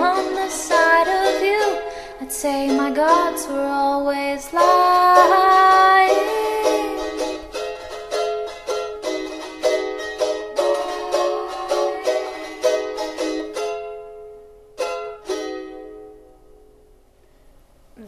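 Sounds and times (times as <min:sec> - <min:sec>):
plucked string instrument: 0:00.0 - 0:16.9.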